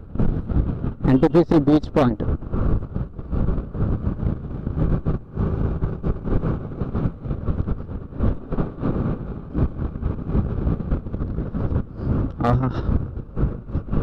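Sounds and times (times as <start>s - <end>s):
road noise: 0.0s - 14.0s
wind rushing over microphone: 0.0s - 14.0s
motorcycle engine: 2.3s - 14.0s.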